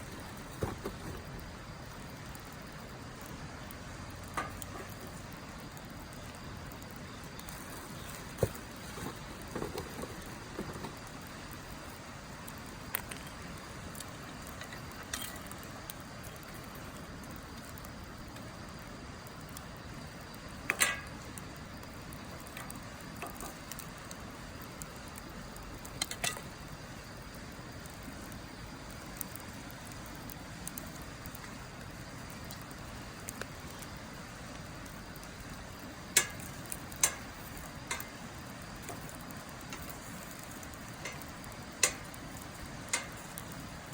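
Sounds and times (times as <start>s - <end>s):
fire low hiss: 0.0s - 43.9s
wood crackles and pops: 0.0s - 43.9s.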